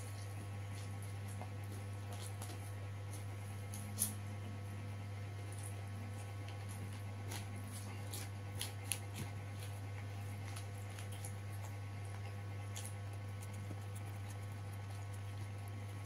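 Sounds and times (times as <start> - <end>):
chewing: 0.0 - 4.6, 5.4 - 16.0.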